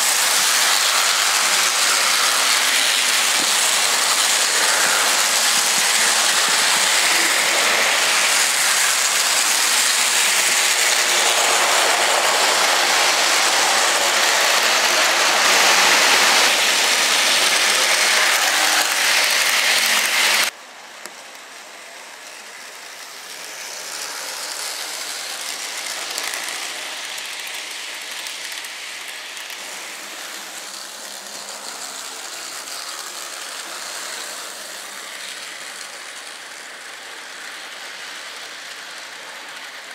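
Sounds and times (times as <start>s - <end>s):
model train wheels clattering: 0.0s - 21.4s, 22.2s - 39.9s
model train motor whirring: 0.0s - 39.9s.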